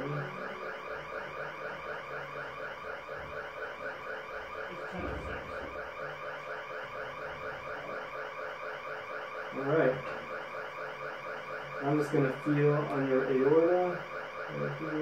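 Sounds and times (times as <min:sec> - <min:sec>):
electronic warbling alarm tone: 0:00.0 - 0:15.0.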